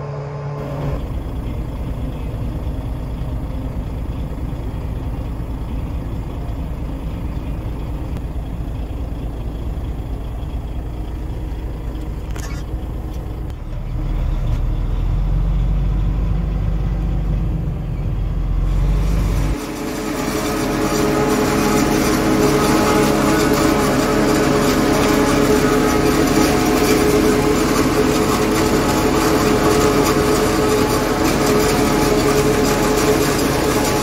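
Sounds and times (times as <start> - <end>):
diesel engine rumbling: 0.0 - 34.0.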